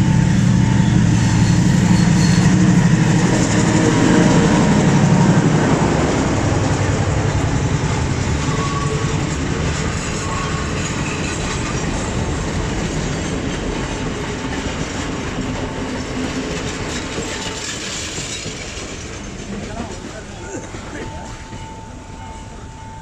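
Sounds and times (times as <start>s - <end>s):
train rolling on rails: 0.0s - 23.0s.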